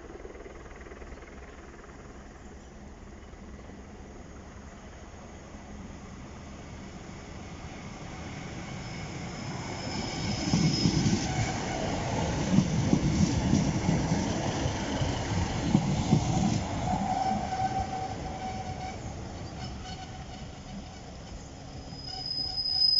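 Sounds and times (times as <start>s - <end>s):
train wheels rumbling on rails: 3.9s - 22.9s.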